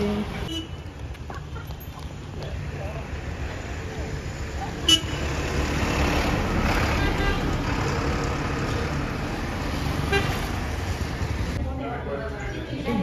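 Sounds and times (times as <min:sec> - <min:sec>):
passing vehicles rumbling: 0:00.0 - 0:13.0.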